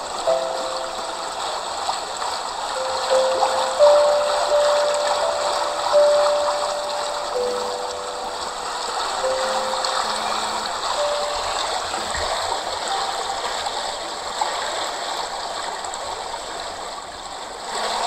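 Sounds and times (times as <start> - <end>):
waterfall rushing over rocks: 0.0 - 16.6.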